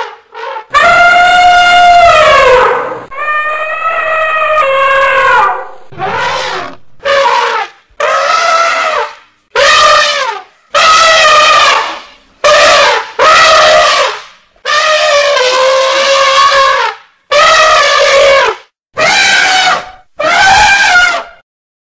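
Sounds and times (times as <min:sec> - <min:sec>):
elephant trumpeting: 0:00.0 - 0:21.4.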